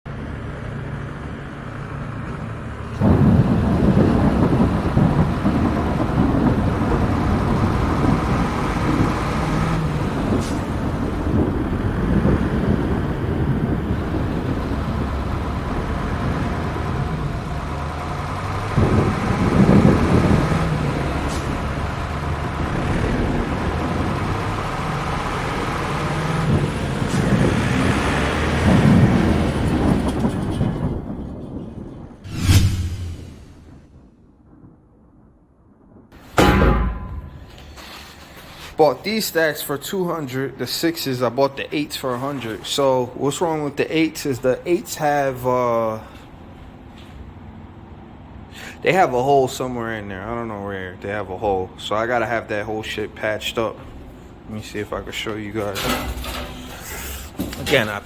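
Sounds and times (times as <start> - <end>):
diesel truck engine rumbling: 0.1 - 33.8, 36.2 - 58.0.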